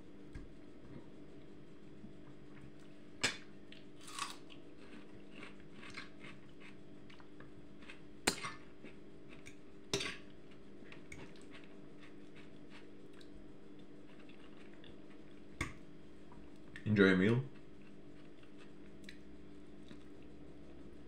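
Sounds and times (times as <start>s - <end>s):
person chewing and crunching food: 2.3s - 16.8s, 17.5s - 20.9s.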